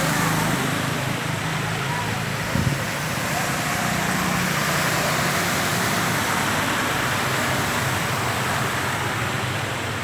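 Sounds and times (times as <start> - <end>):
heavy rain: 0.0 - 10.0
low engine hum: 0.0 - 10.0
tyres spraying water: 0.0 - 10.0.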